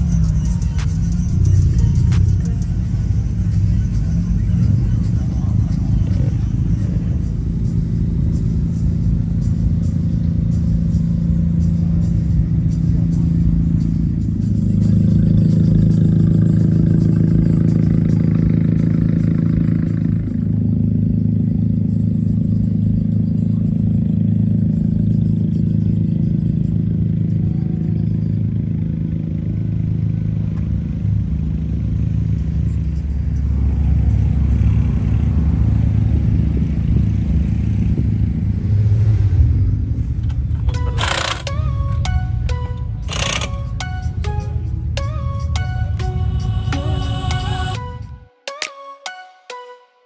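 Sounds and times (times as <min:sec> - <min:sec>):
car engine idling: 0:00.0 - 0:48.2.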